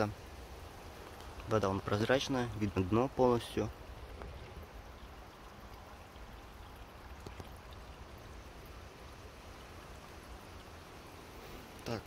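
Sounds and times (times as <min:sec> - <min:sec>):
water trickling from fountain: 0:00.0 - 0:12.0.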